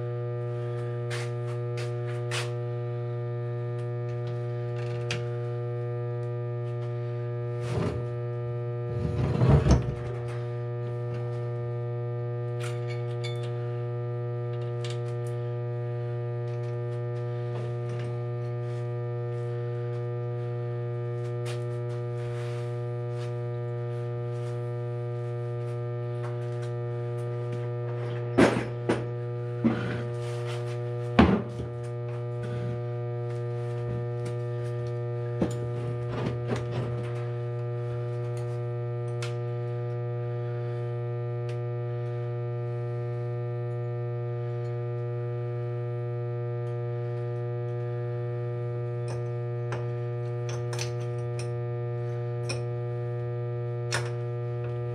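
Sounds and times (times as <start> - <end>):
electrical hum: 0.0 - 54.9.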